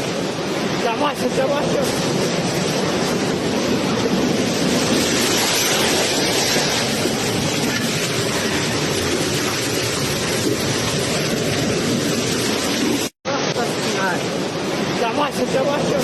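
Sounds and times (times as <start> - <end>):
tornado winds roaring: 0.0 - 16.0.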